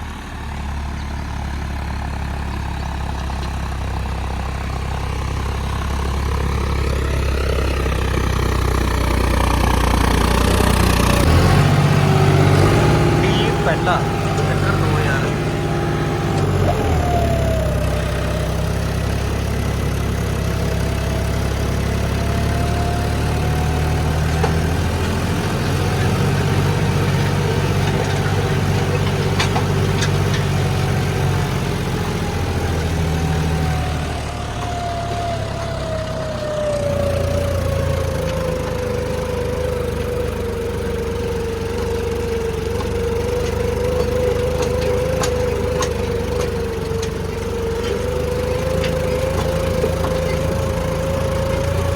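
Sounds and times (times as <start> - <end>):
engine whine: 0.0 - 51.9
tractor diesel engine running: 0.0 - 51.9.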